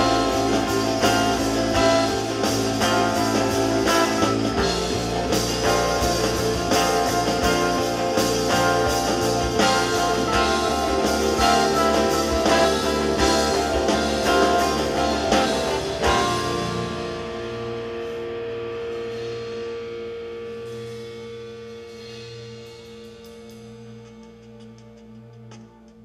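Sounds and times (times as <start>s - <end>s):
live rock band playing: 0.0s - 25.7s.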